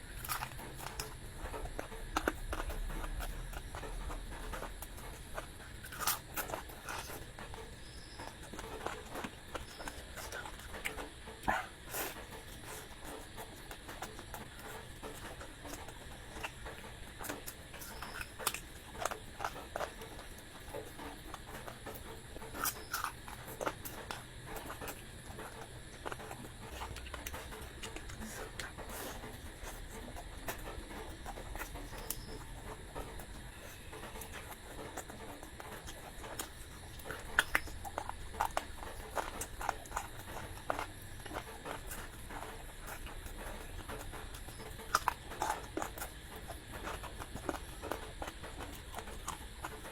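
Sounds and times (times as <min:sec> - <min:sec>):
person chewing and smacking food: 0:00.0 - 0:49.9.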